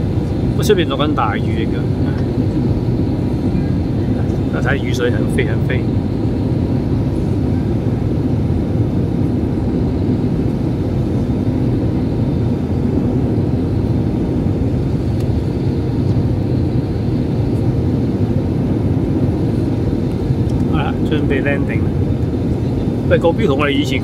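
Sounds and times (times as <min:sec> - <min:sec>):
faint steady whine: 0:00.0 - 0:24.0
jet engines rumbling: 0:00.0 - 0:24.0.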